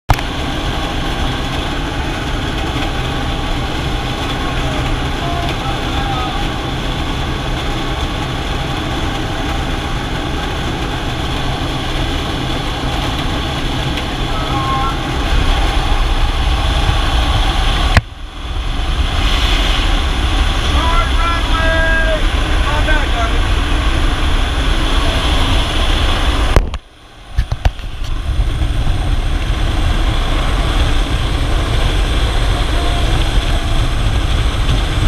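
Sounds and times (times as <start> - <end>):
light aircraft engine and propeller drone: 0.1 - 35.0
wind rushing: 5.8 - 35.0.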